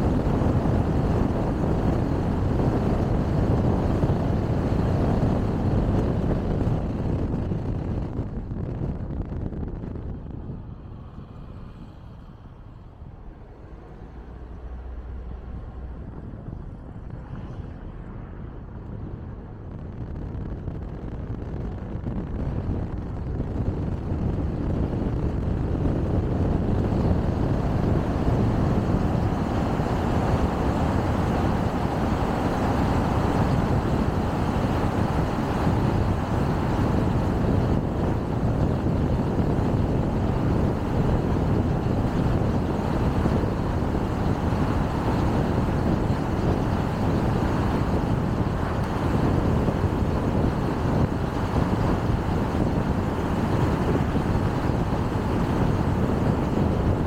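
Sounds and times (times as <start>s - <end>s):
car road noise: 0.0s - 57.0s.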